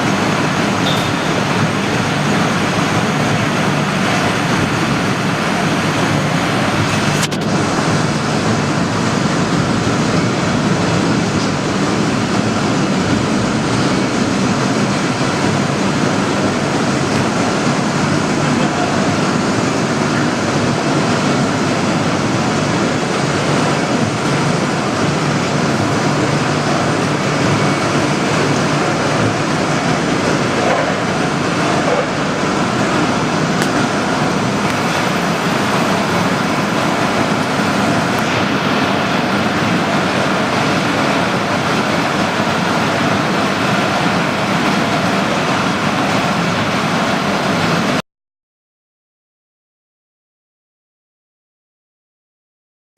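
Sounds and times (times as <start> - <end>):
mechanical rumble and hiss: 0.0 - 48.0.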